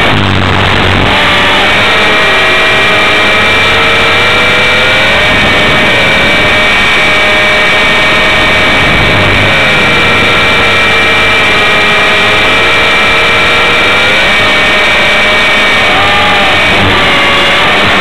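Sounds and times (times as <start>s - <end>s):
rc helicopter rotor whine: 0.0s - 18.0s.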